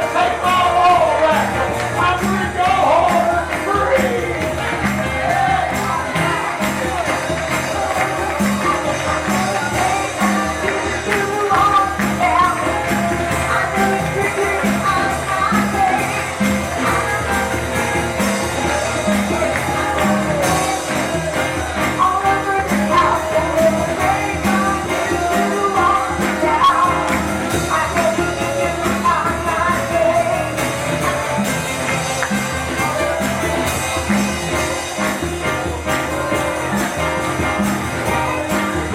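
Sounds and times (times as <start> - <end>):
band playing worship music: 0.0 - 38.9
voices singing: 0.0 - 38.9.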